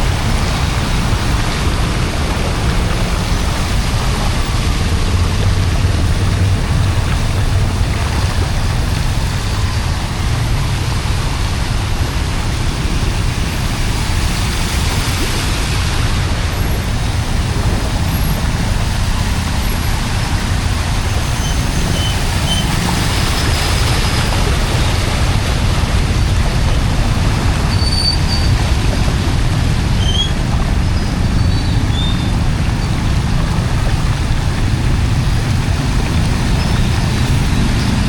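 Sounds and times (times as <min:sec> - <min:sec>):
floodwater rushing into drain: 0:00.0 - 0:38.0.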